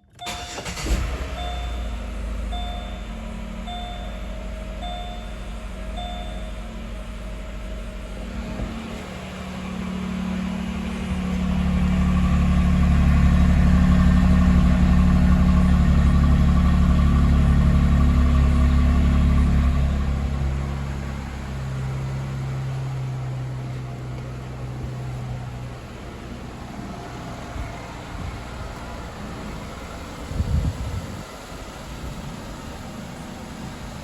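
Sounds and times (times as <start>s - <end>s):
car engine idling: 0.1s - 34.0s.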